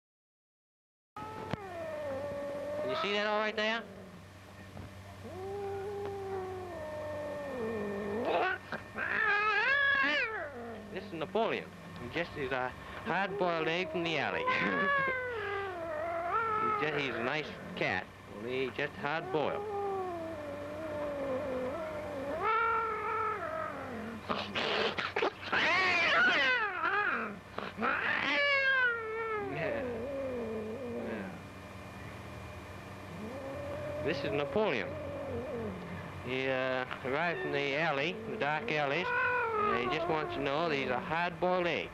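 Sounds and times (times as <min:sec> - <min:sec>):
cat yowling: 0:01.2 - 0:04.0, 0:05.2 - 0:11.7, 0:12.4 - 0:17.7, 0:18.5 - 0:31.4, 0:33.1 - 0:36.0, 0:37.1 - 0:41.0.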